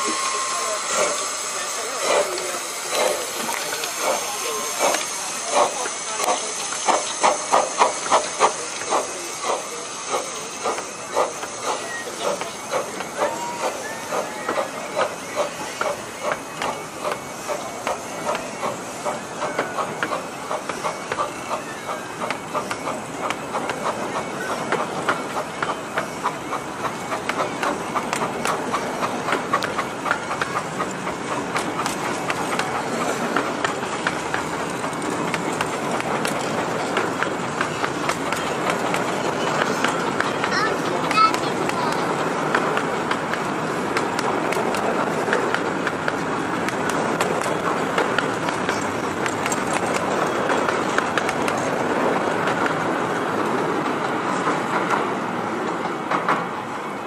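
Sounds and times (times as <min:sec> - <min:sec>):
train wheels rumbling on rails: 0:00.0 - 0:57.0
wheels clicking over rail joints: 0:01.9 - 0:57.0.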